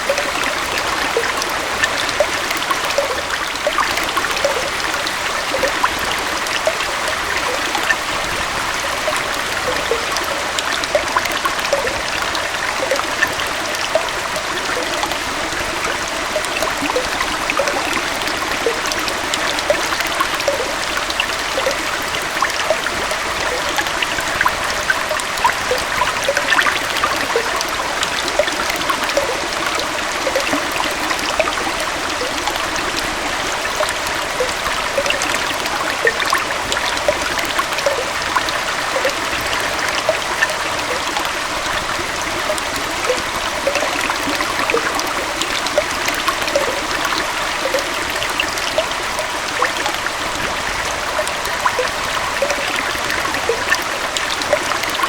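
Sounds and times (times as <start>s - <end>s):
waterfall and stream flowing: 0.0s - 55.0s.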